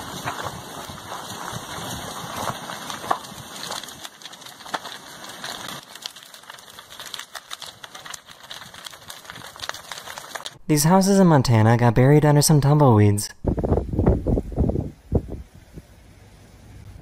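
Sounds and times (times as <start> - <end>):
burning house crackling and popping: 0.0 - 17.0.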